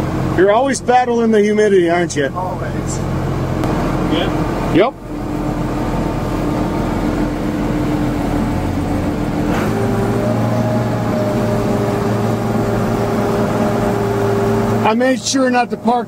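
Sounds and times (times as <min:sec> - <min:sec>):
corn picker machine hum: 0:00.0 - 0:16.0.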